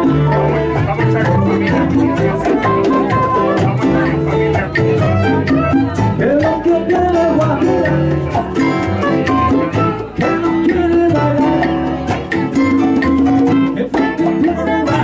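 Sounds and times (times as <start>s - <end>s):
acoustic guitar: 0.0s - 15.0s
hand drums: 0.0s - 15.0s
saxophone melody: 0.0s - 15.0s
small live band playing: 0.0s - 15.0s
upright bass: 0.0s - 15.0s.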